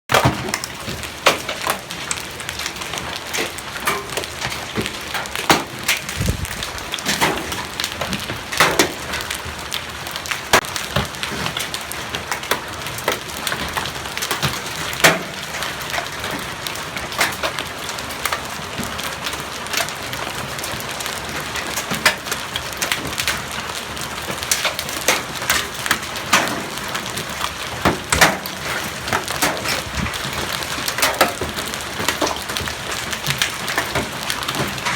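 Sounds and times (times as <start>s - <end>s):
hailstones pattering: 0.1s - 34.9s
sharp cracks of large hailstones: 0.1s - 34.9s.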